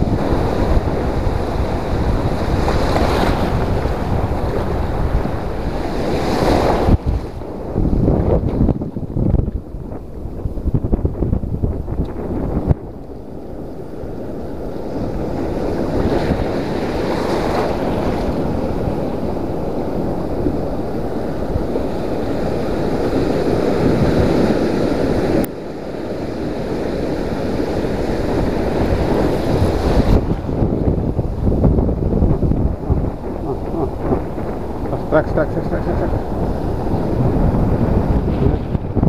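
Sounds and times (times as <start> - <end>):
sea surf over rocks: 0.0 - 39.0
wind buffeting microphone: 0.0 - 39.0.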